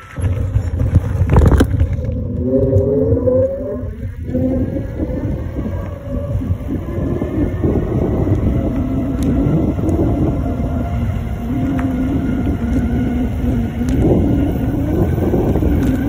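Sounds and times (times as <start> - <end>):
e-bike rolling rumble: 0.0 - 16.0
wind buffeting microphone: 0.0 - 16.0
faint rising whine: 0.3 - 16.0.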